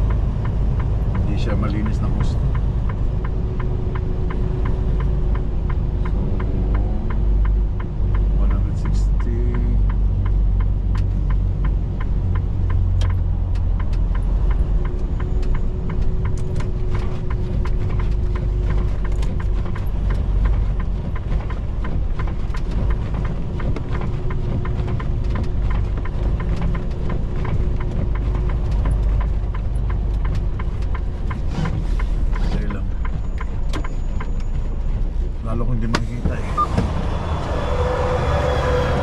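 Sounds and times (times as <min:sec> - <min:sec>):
sharp ticks: 0:00.0 - 0:35.0
truck engine rumble from cab: 0:00.0 - 0:39.0.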